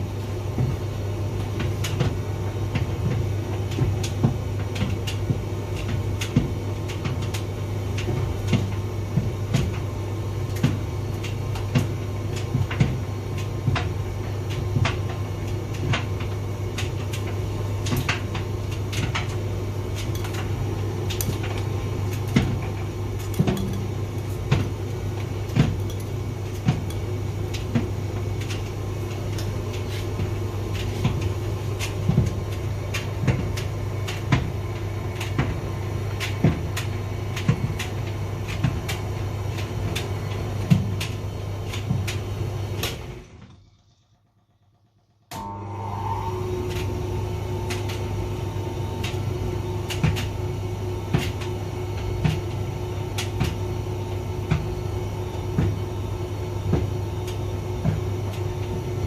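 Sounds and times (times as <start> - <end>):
tumble dryer humming: 0.0 - 59.0.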